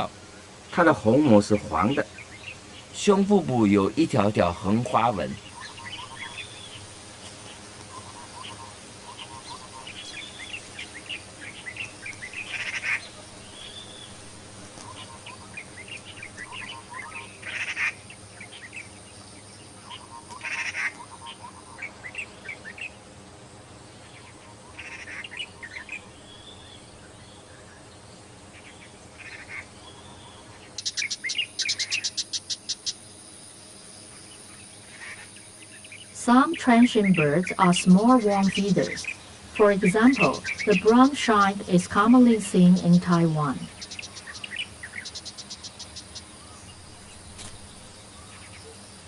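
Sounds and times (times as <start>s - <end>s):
birds chirping: 0.0s - 49.0s
bird chattering run: 0.9s - 22.9s, 29.2s - 33.0s, 34.3s - 48.8s.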